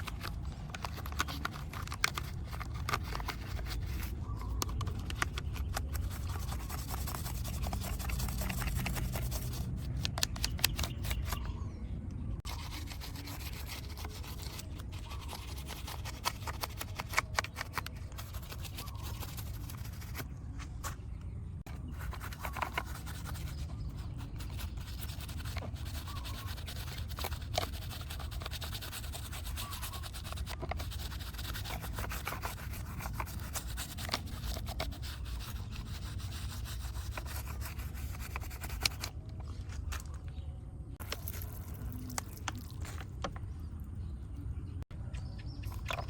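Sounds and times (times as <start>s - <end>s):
scrubbing and rubbing: 0.0s - 11.4s, 12.4s - 21.0s, 21.7s - 40.2s, 41.0s - 43.2s.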